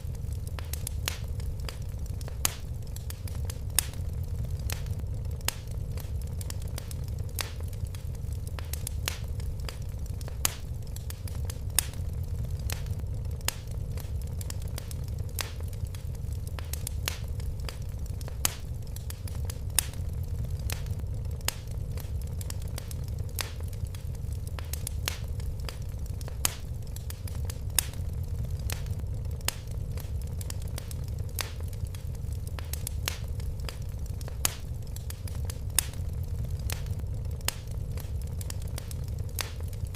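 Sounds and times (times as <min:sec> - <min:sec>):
log fire crackling and popping: 0:00.0 - 0:39.9
low rumble of flames: 0:00.0 - 0:39.9.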